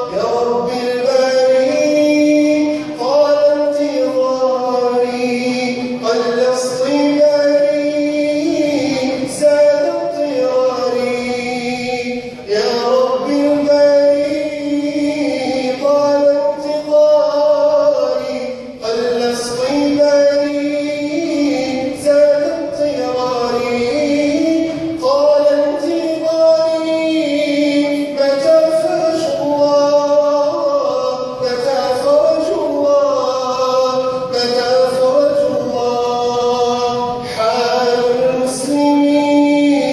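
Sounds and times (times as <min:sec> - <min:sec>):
man singing: 0:00.0 - 0:39.9.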